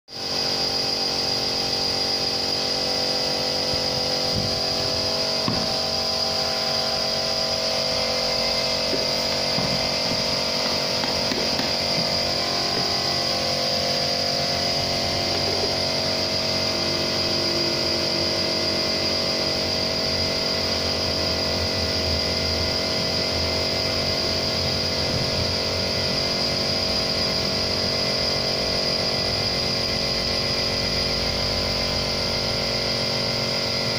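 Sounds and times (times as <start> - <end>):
small machine motor whining: 0.1 - 33.9.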